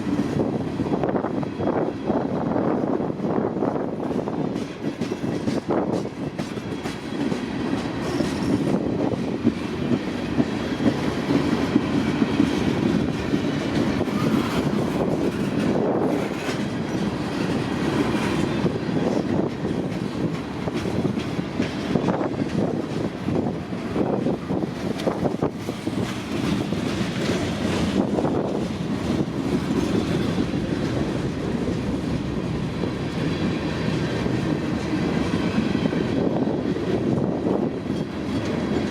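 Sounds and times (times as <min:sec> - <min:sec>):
freight train rumbling past: 0:00.0 - 0:38.9
wheels clacking over rail joints: 0:03.9 - 0:38.9.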